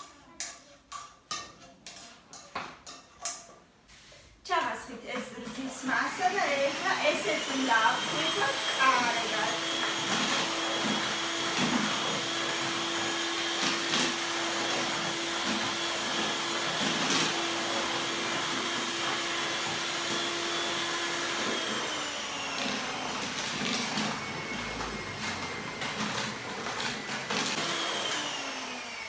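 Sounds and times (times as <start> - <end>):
electric hand mixer whirring: 5.2 - 29.0.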